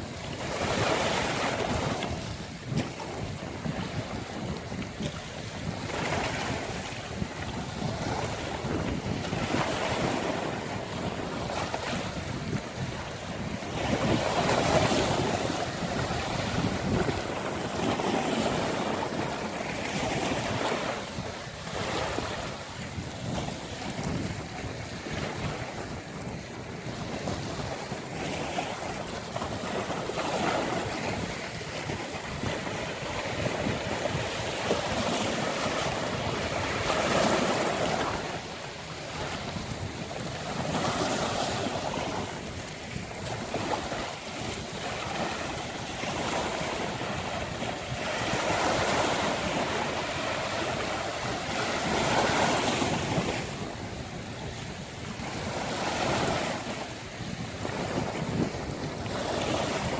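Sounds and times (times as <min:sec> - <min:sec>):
ocean waves breaking on beach: 0:00.0 - 0:59.9
wind buffeting microphone: 0:00.0 - 0:59.9.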